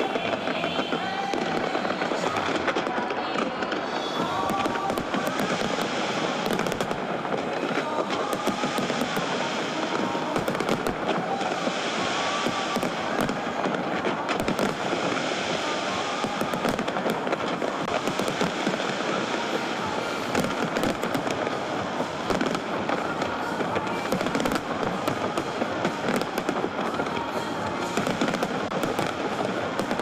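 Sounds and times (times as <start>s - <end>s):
fireworks bangs: 0.0s - 30.0s
fireworks crackling: 0.0s - 30.0s.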